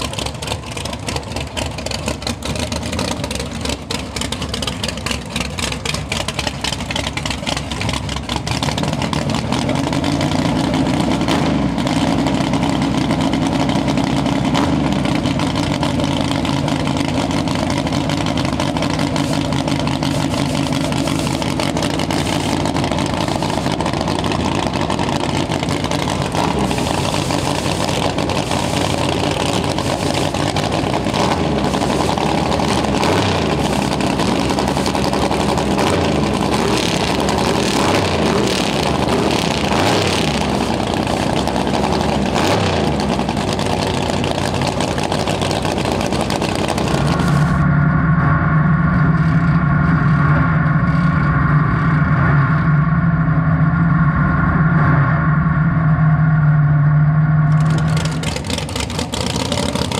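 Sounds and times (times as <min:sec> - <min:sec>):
loud steady engine note: 0:00.0 - 0:59.9
race car engines idling: 0:00.0 - 0:59.9.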